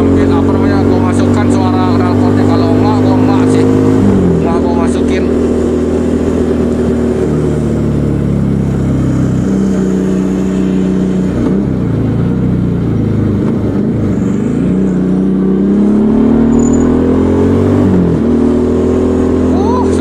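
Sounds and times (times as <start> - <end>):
motorcycle engine and exhaust: 0.0 - 20.0.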